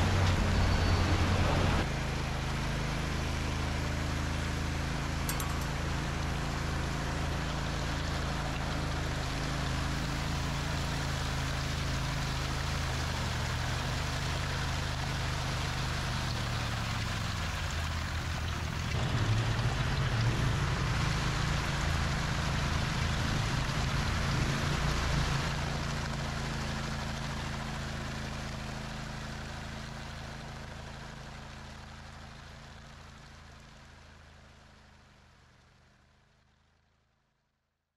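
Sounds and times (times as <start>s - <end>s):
construction machinery engine running: 0.0s - 36.2s.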